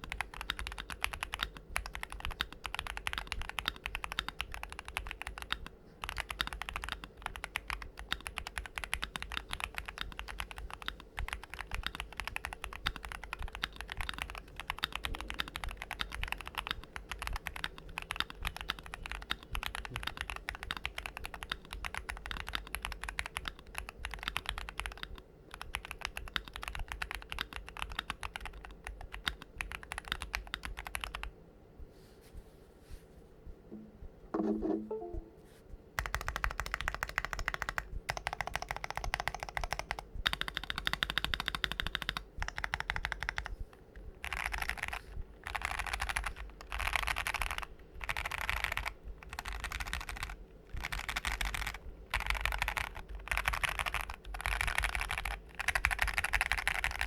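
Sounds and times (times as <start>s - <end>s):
mechanical keyboard typing: 0.0s - 31.3s, 36.0s - 43.5s, 44.2s - 57.0s.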